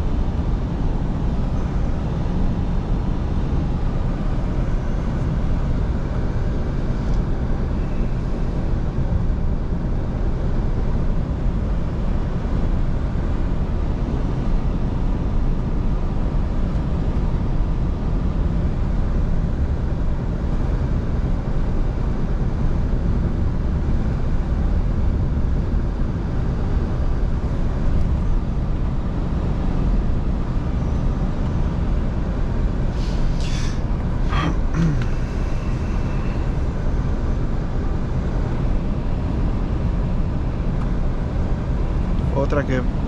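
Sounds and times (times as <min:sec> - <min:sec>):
truck engine and road noise: 0:00.0 - 0:43.0.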